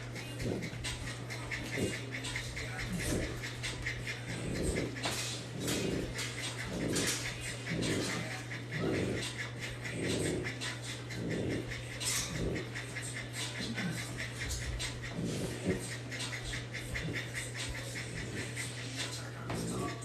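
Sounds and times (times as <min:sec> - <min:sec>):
dog making low sounds: 0:00.0 - 0:20.0
steady low hum: 0:00.0 - 0:20.0.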